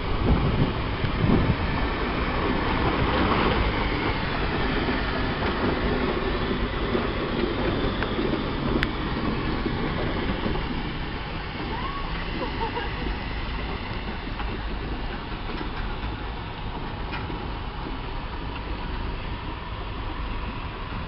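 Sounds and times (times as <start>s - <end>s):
iron wheels clattering: 0.0s - 21.0s
steam traction engine rumbling: 0.0s - 21.0s.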